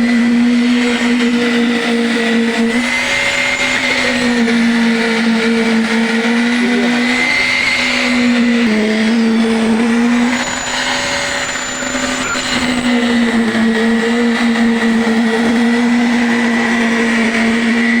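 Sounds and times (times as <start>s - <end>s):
concrete vibrator high hum: 0.0s - 18.0s.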